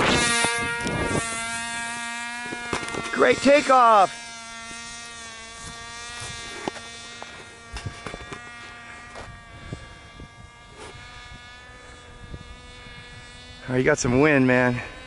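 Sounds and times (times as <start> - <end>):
model airplane engine buzzing: 0.0 - 15.0.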